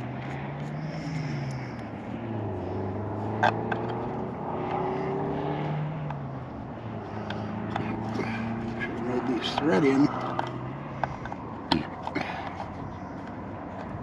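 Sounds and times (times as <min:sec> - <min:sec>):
distant engine droning: 0:00.0 - 0:14.0.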